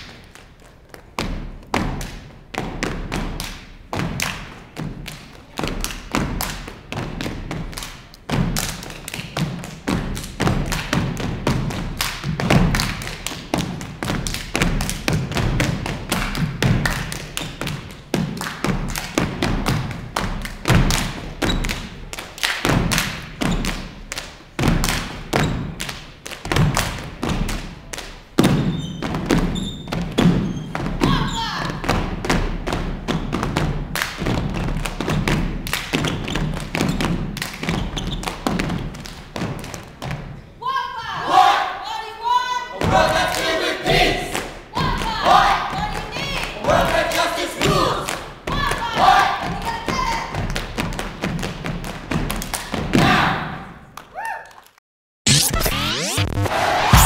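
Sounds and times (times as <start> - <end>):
clapping and slapping in unison: 0.0 - 28.6, 31.8 - 40.1, 42.8 - 43.7, 44.3 - 53.2.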